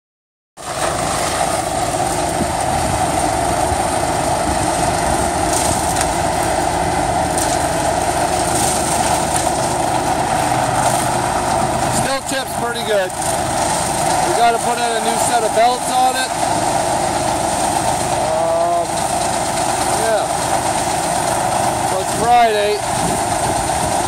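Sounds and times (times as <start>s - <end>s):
wood chipper running: 0.6s - 24.0s.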